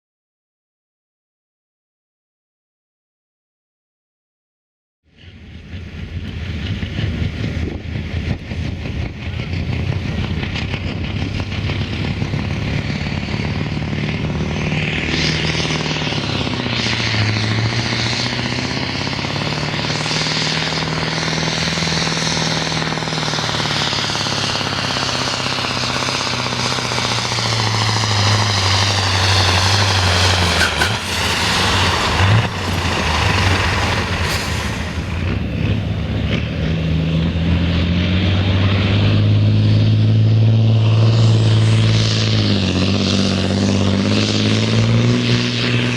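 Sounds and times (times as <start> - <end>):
truck engine revving under load: 6.7 - 45.9.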